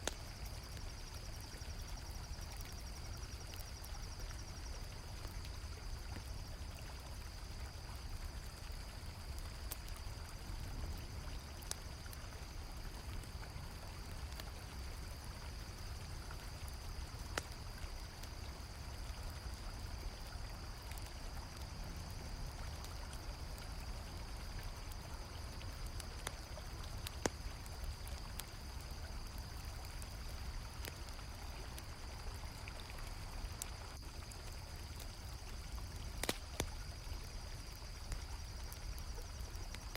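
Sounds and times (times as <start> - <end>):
campfire crackling and popping: 0.0 - 39.9
crickets chirring: 0.0 - 39.9.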